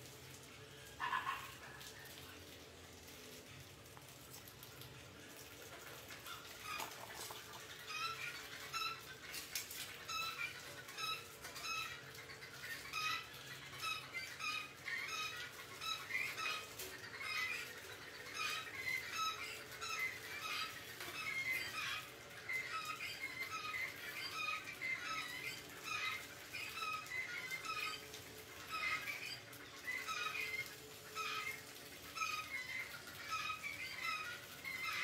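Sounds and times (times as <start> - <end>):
rats squeaking: 5.4 - 35.0.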